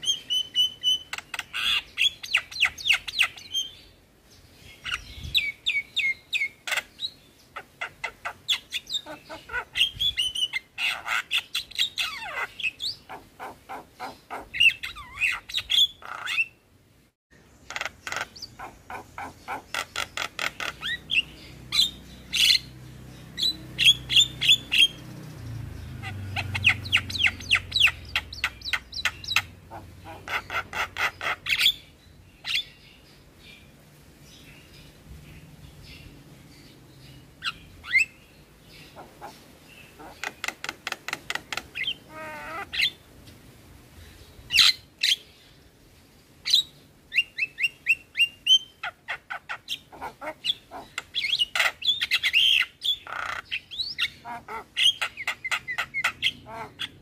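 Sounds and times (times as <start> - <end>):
bird chattering song: 0.0 - 16.6, 17.5 - 43.0, 46.4 - 57.0.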